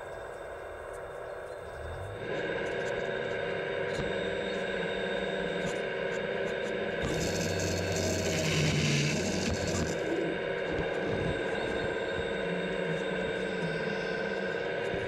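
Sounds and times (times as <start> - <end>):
deeper hum: 1.7 - 15.0
hydraulic pump whine: 1.8 - 15.0.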